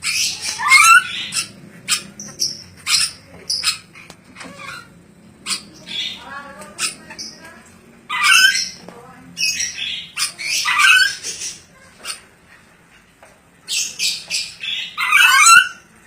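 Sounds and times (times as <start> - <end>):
parrot squawking: 0.0 - 8.8, 9.4 - 12.3, 13.7 - 15.9.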